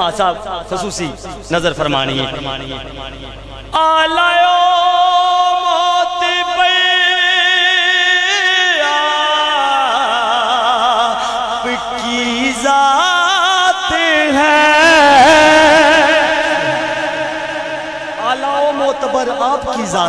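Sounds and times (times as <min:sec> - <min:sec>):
man singing into microphone: 0:02.0 - 0:20.0.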